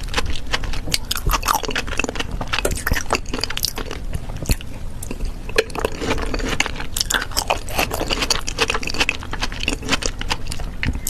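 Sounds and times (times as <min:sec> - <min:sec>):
chewing and eating: 0:00.0 - 0:11.0.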